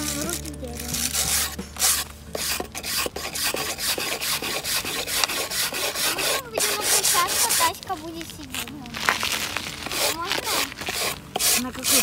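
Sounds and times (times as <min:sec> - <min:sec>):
wire brush scraping wood: 0:00.0 - 0:12.0.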